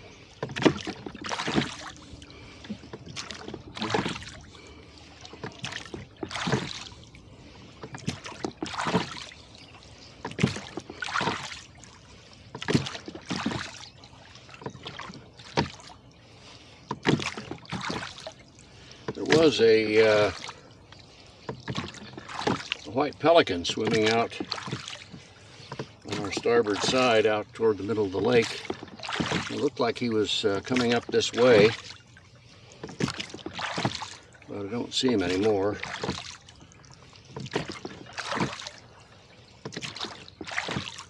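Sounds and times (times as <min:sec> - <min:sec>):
oars splashing in water: 0:00.0 - 0:41.0.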